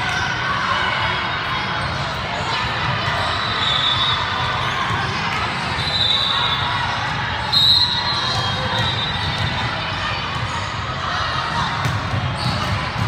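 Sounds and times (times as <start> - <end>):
people chattering and calling out: 0.0 - 13.0.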